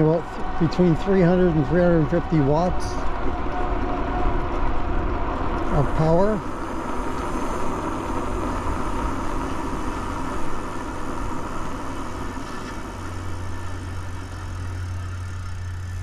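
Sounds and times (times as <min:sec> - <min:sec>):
wind rushing over microphone: 0:00.0 - 0:14.9
bicycle tyre and drivetrain noise: 0:00.0 - 0:16.0.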